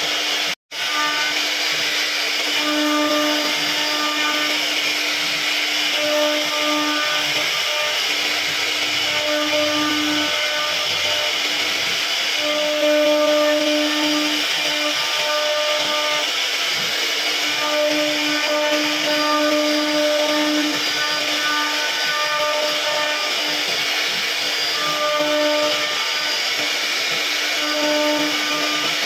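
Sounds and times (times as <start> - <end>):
pitched machine hum: 0.0 - 29.0
router spindle cutting wood: 0.0 - 29.0.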